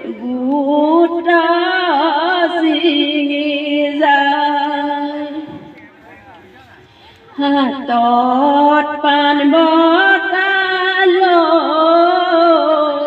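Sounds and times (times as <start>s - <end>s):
woman singing folk song: 0.0s - 5.5s, 7.4s - 13.0s.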